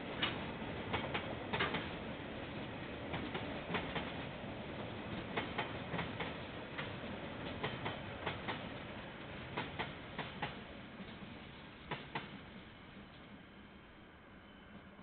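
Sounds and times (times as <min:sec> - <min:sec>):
train running noise: 0:00.0 - 0:15.0
train wheels clicking over joints: 0:00.1 - 0:02.0, 0:03.1 - 0:13.2.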